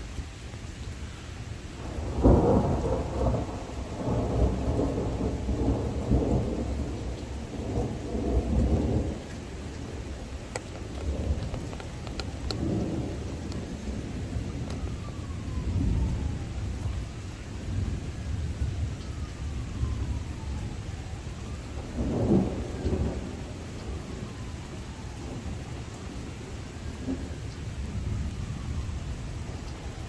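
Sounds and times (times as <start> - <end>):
rain falling: 0.0 - 30.0
thunder rumbling: 1.8 - 30.0.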